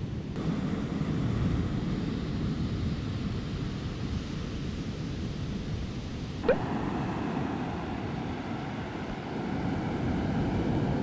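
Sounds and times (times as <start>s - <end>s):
surf washing on beach: 0.4s - 11.0s.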